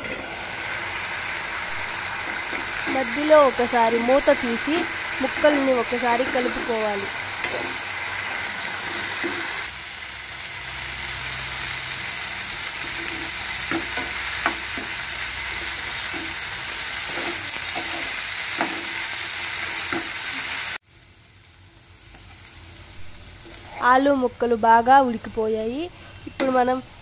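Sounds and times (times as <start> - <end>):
potatoes sizzling in oil: 0.0 - 27.0.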